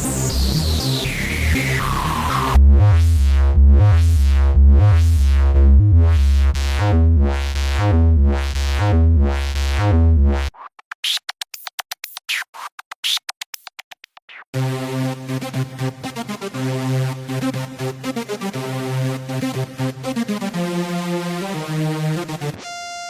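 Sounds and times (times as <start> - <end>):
bass-heavy synth riff: 0.0 - 10.6, 14.6 - 23.0.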